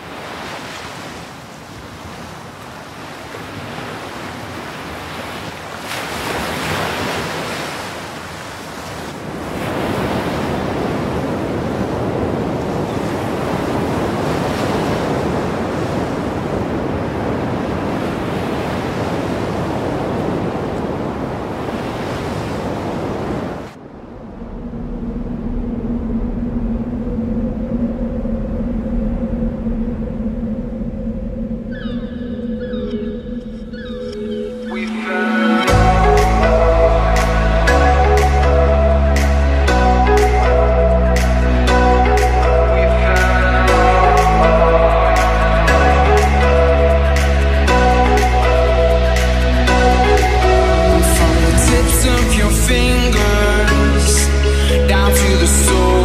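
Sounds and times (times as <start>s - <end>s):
ocean surf rushing: 0.0s - 56.0s
wind: 0.0s - 56.0s.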